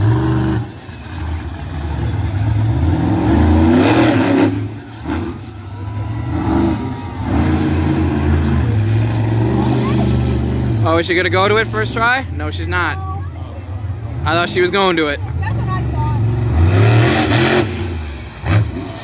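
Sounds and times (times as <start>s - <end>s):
monster truck engine revving: 0.0s - 12.9s, 13.7s - 19.0s.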